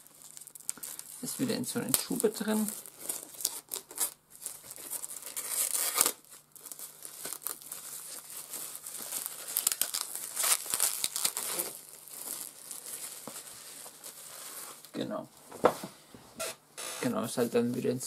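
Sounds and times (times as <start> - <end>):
plastic shrink-wrap crinkling: 0.0 - 15.2.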